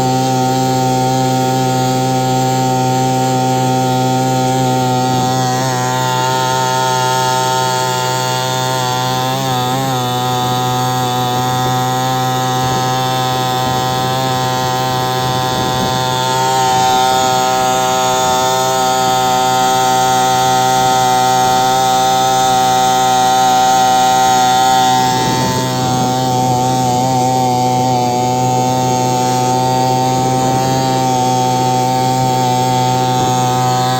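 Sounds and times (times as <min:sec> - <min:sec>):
small outboard motor running: 0:00.0 - 0:33.9.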